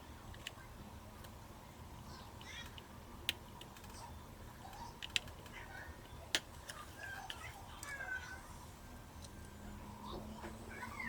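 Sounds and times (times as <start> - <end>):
faint background sounds: 0.0 - 11.0.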